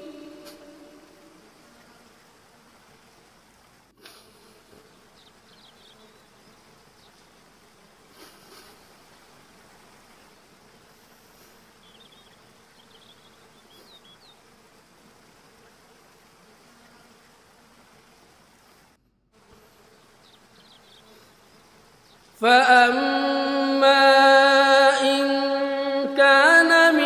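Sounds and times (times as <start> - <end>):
faint background hum and hiss: 0.0 - 27.0.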